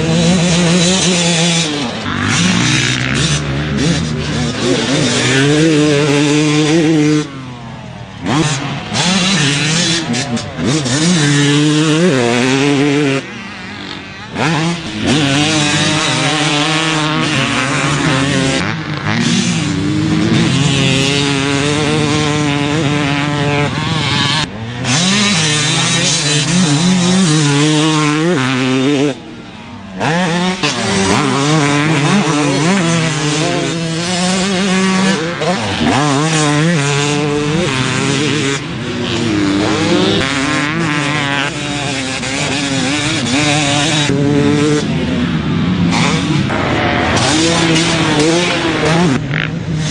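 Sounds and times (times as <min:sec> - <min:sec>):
two-stroke motocross engine revving: 0:00.0 - 0:49.9.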